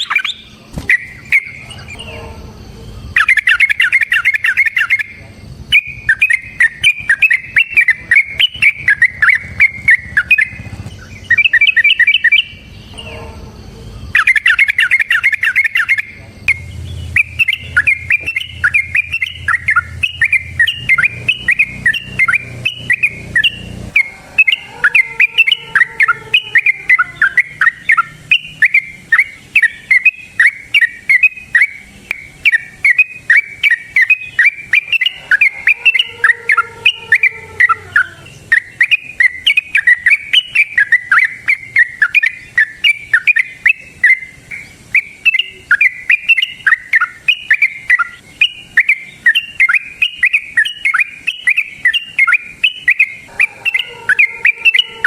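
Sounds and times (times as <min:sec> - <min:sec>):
bird chattering song: 0:00.0 - 0:55.0
low sliding bird call: 0:00.0 - 0:55.0.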